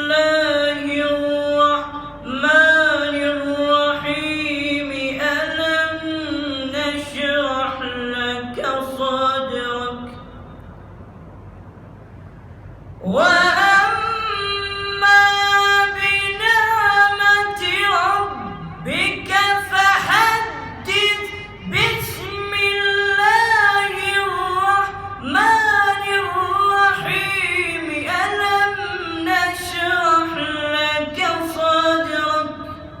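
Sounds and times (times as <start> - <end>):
person chanting melodic recitation: 0.0 - 10.4, 13.0 - 33.0.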